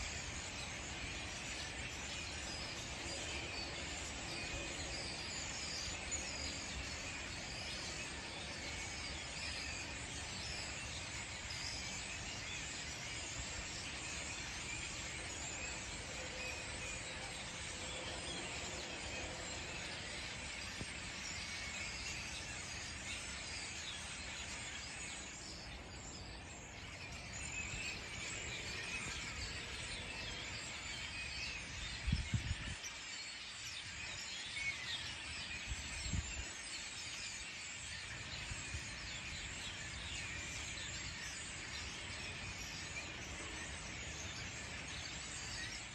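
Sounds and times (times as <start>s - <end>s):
starlings chattering and whistling: 0.0s - 45.9s.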